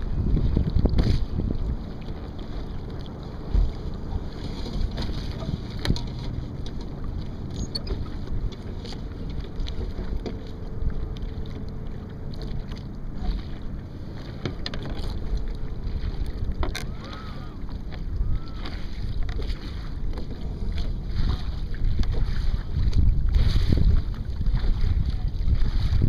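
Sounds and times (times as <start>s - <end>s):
water rushing along hull: 0.0s - 26.0s
wind buffeting microphone: 0.0s - 26.0s.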